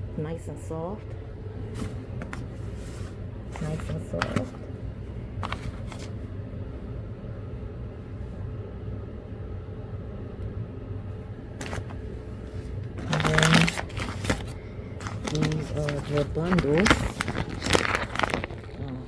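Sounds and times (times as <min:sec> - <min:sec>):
faint constant hum: 0:00.0 - 0:19.0
low background rumble: 0:00.0 - 0:19.0.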